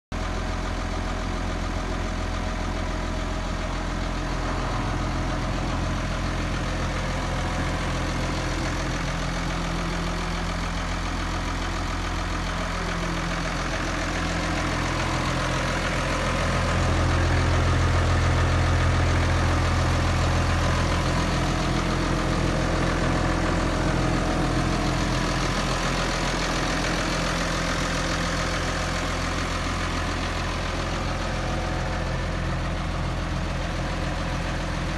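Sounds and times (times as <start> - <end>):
diesel tractor engine idling: 0.1 - 34.9.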